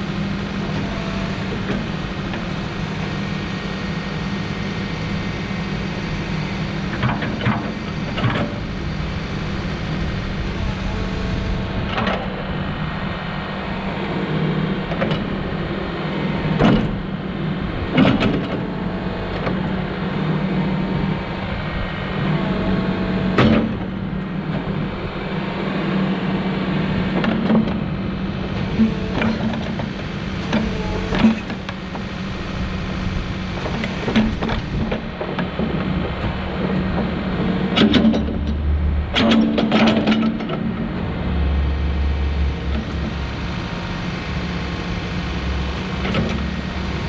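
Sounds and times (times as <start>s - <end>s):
diesel engine running: 0.0s - 47.0s
hydraulic whines: 0.0s - 47.0s.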